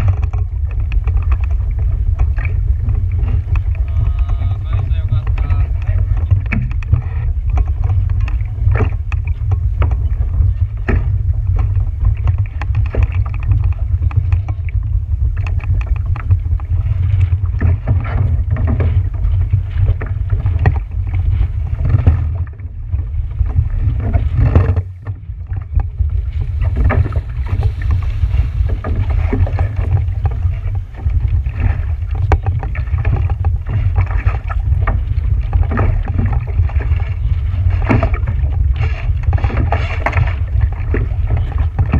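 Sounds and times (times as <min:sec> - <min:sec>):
water splashing against hull: 0:00.0 - 0:41.9
wind buffeting microphone: 0:00.0 - 0:41.9.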